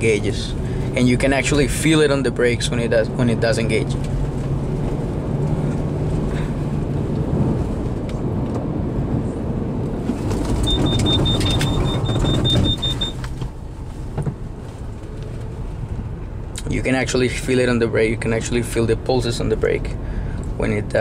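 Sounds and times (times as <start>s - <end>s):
tyre and road noise: 0.0s - 21.0s.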